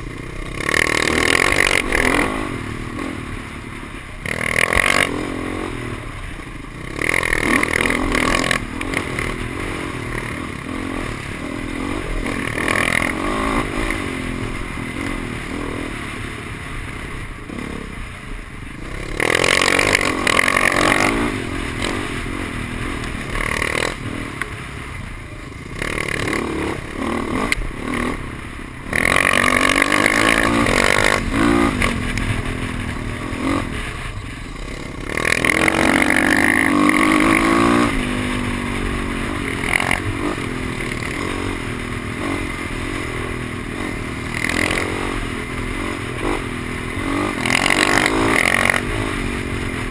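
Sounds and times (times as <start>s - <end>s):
dirt bike engine revving: 0.0s - 24.9s, 25.6s - 49.9s.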